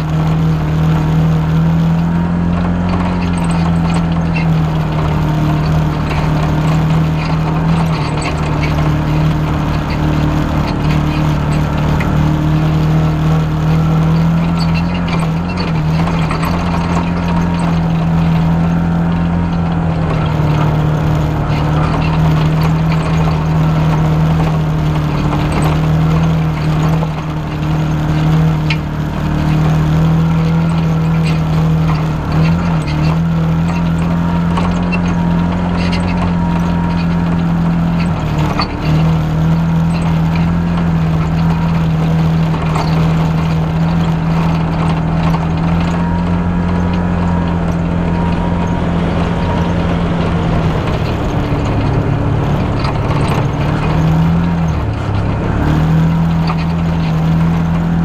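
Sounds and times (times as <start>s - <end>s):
knocks and rattles from bumps: 0.0s - 58.0s
off-road vehicle engine drone: 0.0s - 58.0s.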